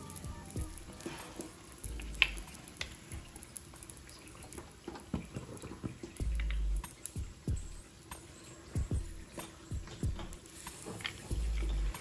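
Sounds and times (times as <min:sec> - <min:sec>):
oil sizzling on griddle: 0:00.0 - 0:12.0
small pops and crackles: 0:00.0 - 0:12.0.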